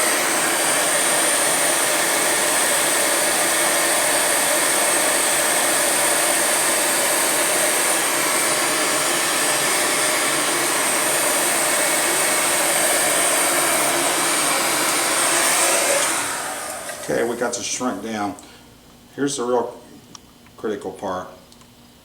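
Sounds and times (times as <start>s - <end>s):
heat gun blowing hot air: 0.0s - 18.0s.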